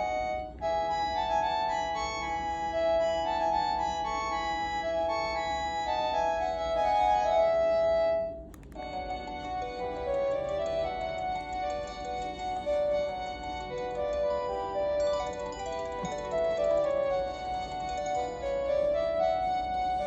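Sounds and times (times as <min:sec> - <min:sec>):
electronic melody ringtone: 0:00.0 - 0:20.0.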